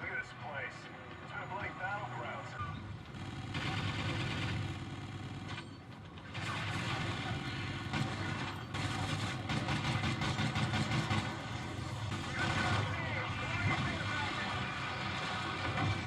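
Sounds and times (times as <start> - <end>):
video game engine sound: 0.0 - 16.0.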